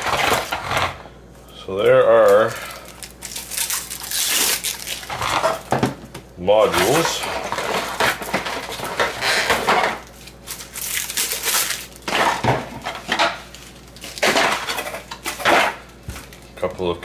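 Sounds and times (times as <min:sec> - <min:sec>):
cardboard packaging rustling: 0:01.9 - 0:05.8, 0:06.6 - 0:17.0.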